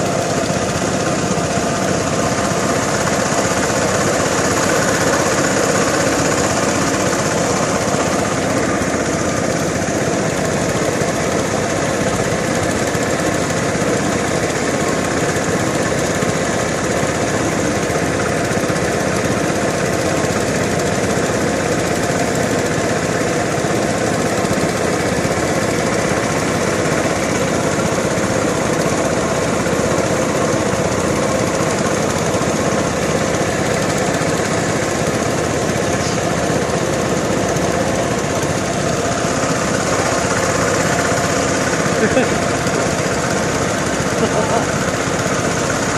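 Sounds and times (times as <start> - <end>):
motor engine running steadily: 0.0 - 45.9.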